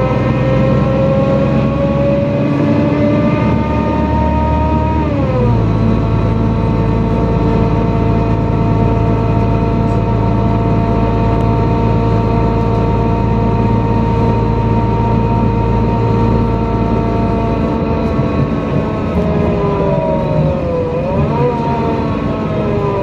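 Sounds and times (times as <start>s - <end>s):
bus engine droning: 0.0s - 23.0s.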